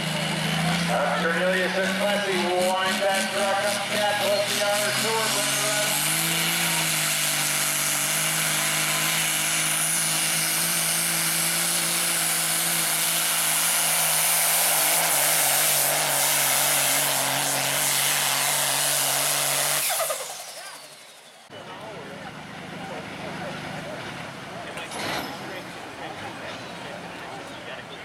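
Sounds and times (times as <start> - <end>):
diesel engine roaring: 0.0 - 28.0.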